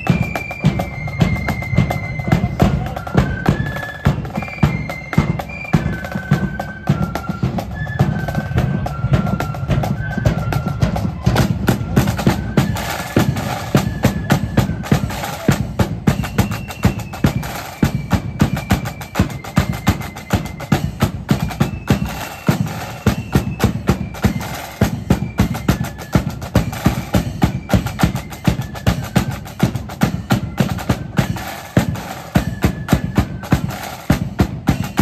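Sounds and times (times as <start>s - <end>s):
snare drums rattling: 0.0s - 35.0s.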